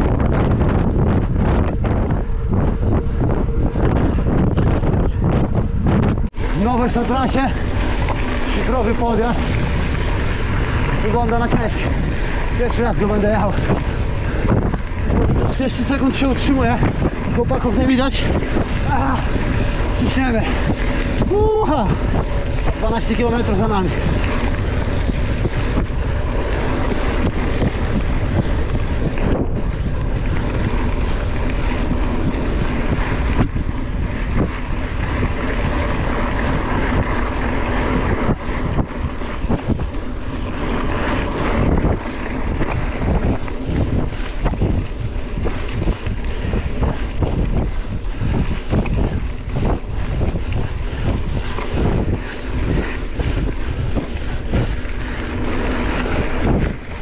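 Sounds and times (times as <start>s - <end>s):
bike knocks and rattles: 0.0s - 57.0s
wind rushing over microphone: 0.0s - 57.0s.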